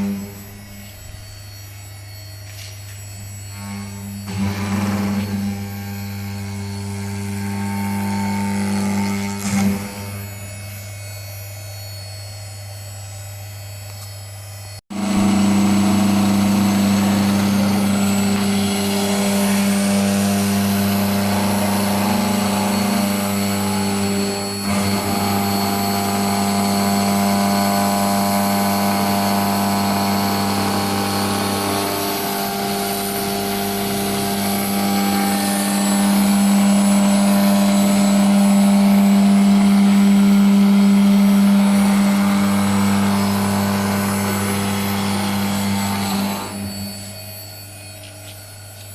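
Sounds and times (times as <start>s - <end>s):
wood router spindle whining: 0.0s - 48.9s.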